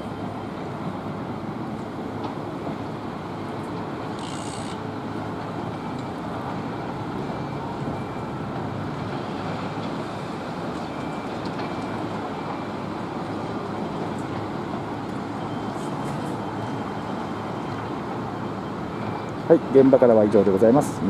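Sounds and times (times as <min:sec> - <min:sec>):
distant construction machinery: 0:00.0 - 0:21.0
road traffic: 0:00.0 - 0:21.0.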